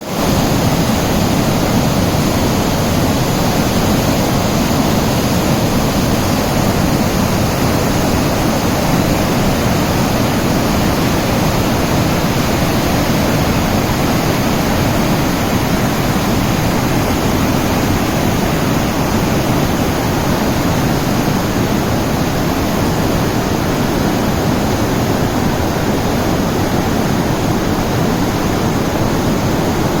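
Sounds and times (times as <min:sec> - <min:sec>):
waterfall rushing and splashing: 0:00.0 - 0:30.0.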